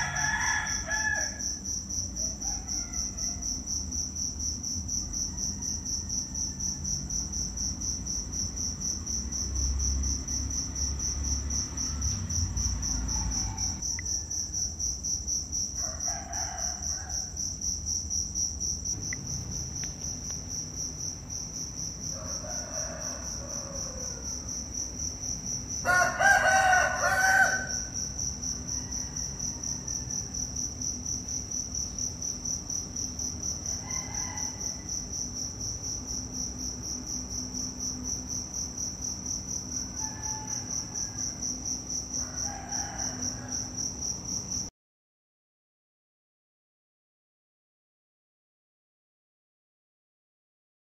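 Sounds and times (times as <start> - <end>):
insects chirring: 0.0 - 44.7.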